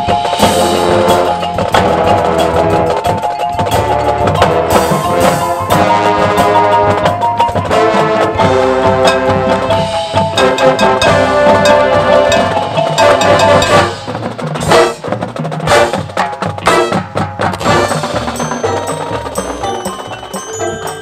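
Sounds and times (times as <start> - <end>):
tubular bells ringing: 0.0 - 14.4, 17.7 - 21.0
wood block: 0.0 - 15.0, 15.7 - 21.0
marching band playing: 0.0 - 21.0.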